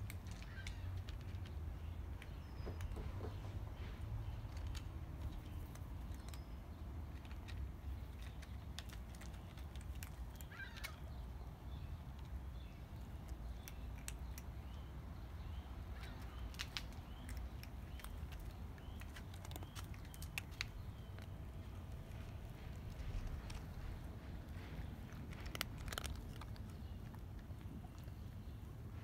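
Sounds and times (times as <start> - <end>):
cats chewing and licking: 0.0 - 29.0
low outdoor rumble: 0.0 - 29.0.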